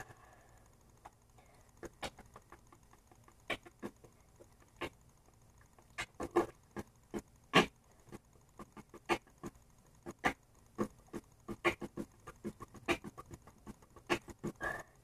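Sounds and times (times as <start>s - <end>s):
boy beatboxing: 1.8s - 5.0s, 5.9s - 15.0s.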